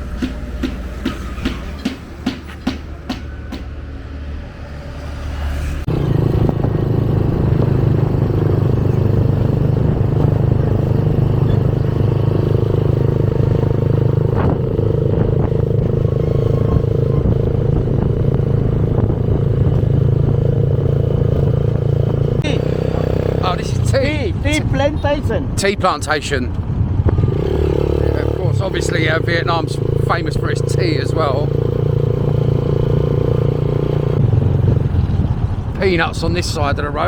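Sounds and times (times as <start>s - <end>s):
motorbike engine running: 5.9s - 36.4s.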